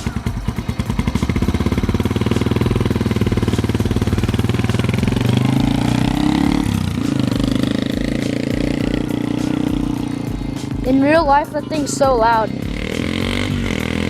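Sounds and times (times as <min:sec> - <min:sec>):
small motorbike engine running: 0:00.0 - 0:14.0.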